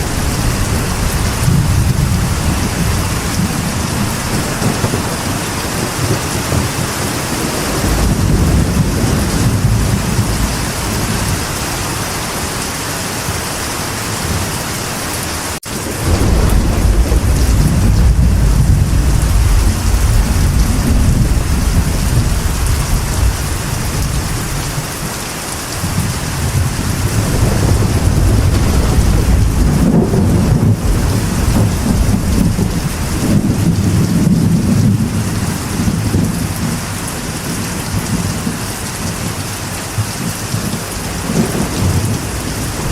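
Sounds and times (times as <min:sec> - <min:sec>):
thunder rumbling: 0:00.0 - 0:14.8, 0:15.6 - 0:42.9
rain on a metal roof: 0:00.0 - 0:42.9.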